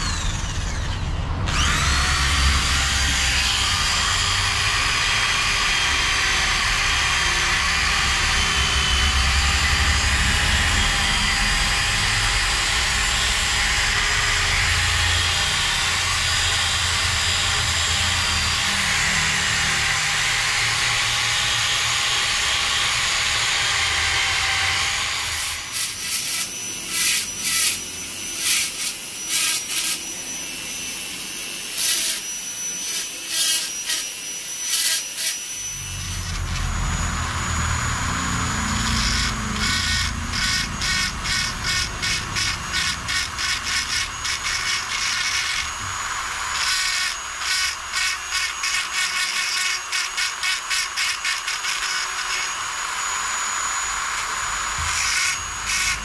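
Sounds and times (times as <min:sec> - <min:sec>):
high-pitched grinding bursts: 0:00.0 - 0:56.0
rotary tool grinding wood: 0:00.0 - 0:56.0.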